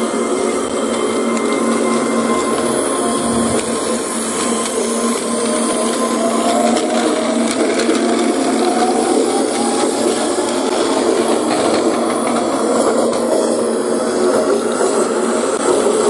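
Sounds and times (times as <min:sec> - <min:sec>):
toy train whirring rattle: 0:00.0 - 0:16.0.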